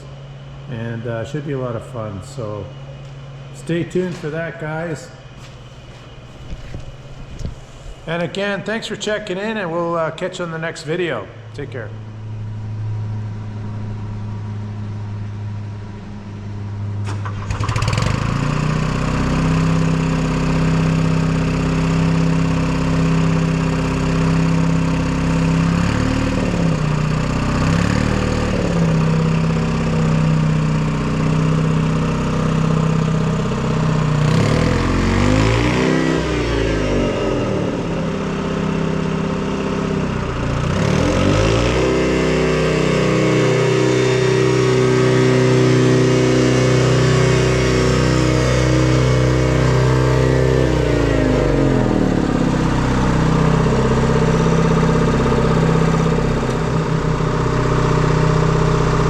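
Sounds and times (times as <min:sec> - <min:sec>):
diesel engine starting and revving: 0:04.2 - 0:59.0.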